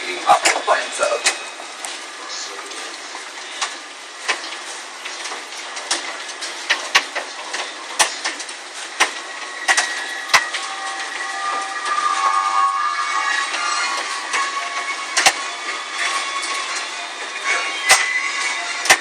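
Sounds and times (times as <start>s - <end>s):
hiss of falling hail and rain: 0.0s - 19.0s.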